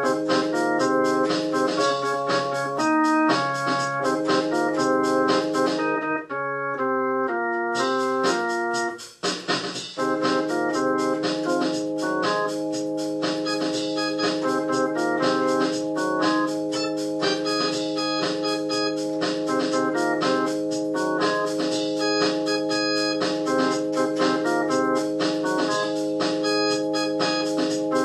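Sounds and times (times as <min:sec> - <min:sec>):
organ music: 0:00.0 - 0:09.0, 0:10.0 - 0:28.0.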